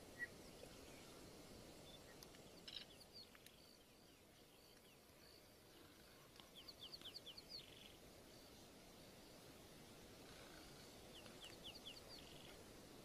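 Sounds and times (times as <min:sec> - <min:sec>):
faint bird calls: 0:00.0 - 0:08.0, 0:10.1 - 0:12.6.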